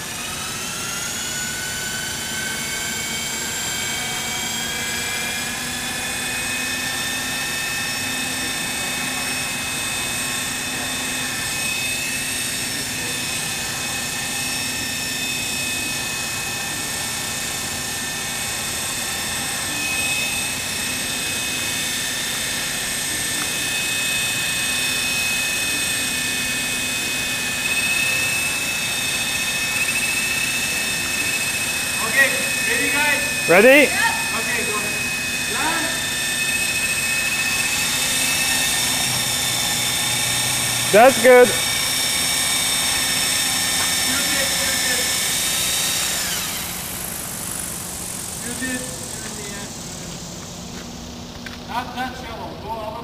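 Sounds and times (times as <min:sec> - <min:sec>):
small helicopter engine whine: 0:00.0 - 0:53.0.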